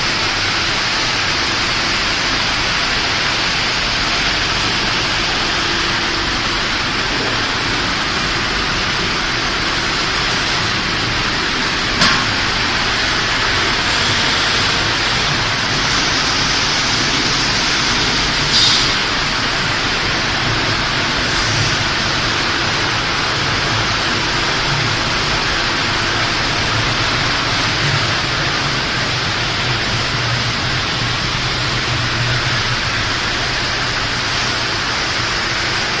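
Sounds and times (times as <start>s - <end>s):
machinery humming: 0.0s - 36.0s.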